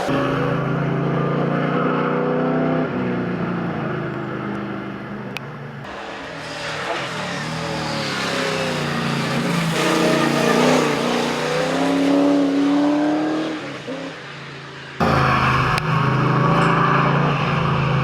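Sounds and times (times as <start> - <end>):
car engine accelerating hard: 0.0 - 14.3, 14.9 - 18.0.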